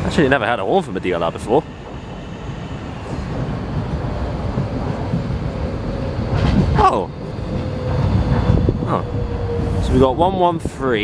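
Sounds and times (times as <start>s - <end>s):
train wheels rumbling on track: 0.0s - 11.0s
train whine: 0.0s - 11.0s.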